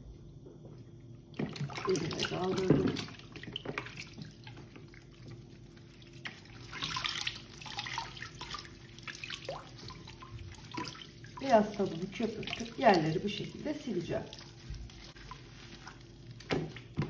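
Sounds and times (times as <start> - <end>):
water sloshing and dripping: 0.5 - 17.0
cloth rubbed in water: 1.6 - 17.0.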